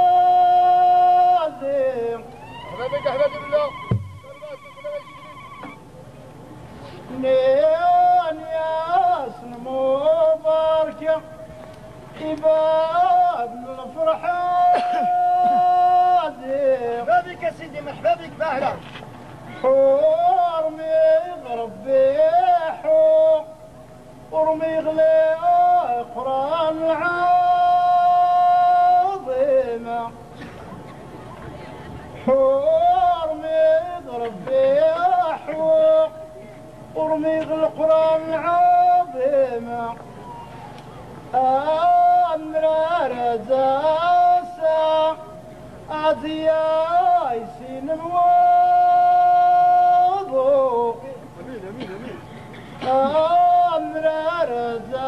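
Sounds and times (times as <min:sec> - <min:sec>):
man singing unaccompanied: 0:00.0 - 0:05.8, 0:07.1 - 0:18.1, 0:19.5 - 0:23.7, 0:24.3 - 0:30.4, 0:32.2 - 0:40.2, 0:41.3 - 0:51.8, 0:52.8 - 0:55.0.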